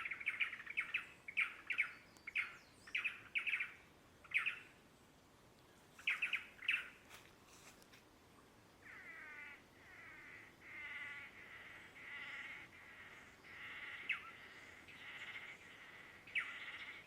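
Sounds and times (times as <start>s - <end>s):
songbirds chirping agitatedly: 0.0s - 7.7s, 8.3s - 17.0s.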